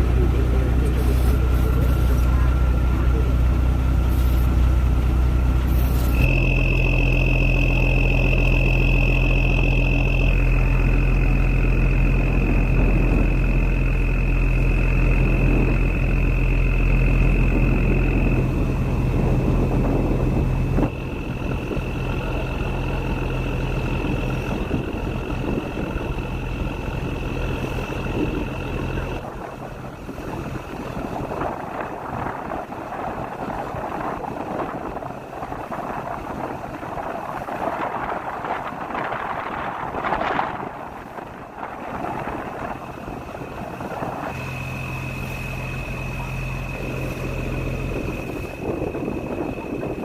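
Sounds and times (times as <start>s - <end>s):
boat engine droning: 0.0s - 50.0s
thin high whine: 0.0s - 50.0s.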